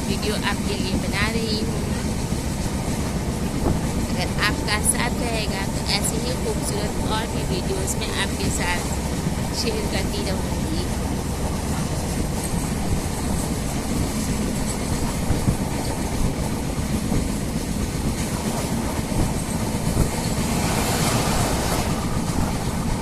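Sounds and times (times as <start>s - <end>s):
train car rattling: 0.0s - 23.0s
train wheels on track: 0.0s - 23.0s.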